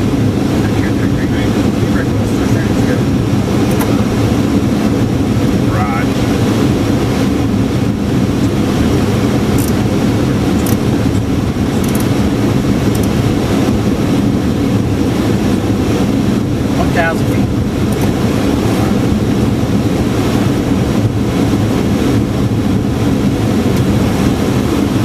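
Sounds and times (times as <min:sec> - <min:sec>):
aircraft engine noise: 0:00.0 - 0:25.0
airflow rush: 0:00.0 - 0:25.0.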